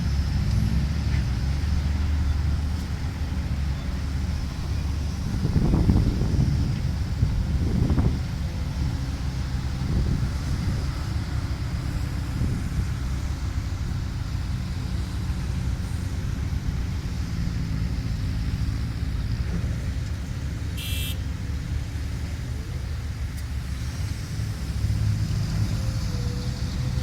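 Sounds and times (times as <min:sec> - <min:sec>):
heavy diesel machinery rumbling: 0:00.0 - 0:27.0.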